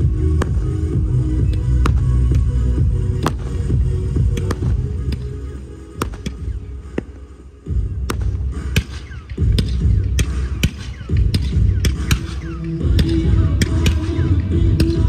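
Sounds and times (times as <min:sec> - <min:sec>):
bass-heavy show music: 0:00.0 - 0:15.0.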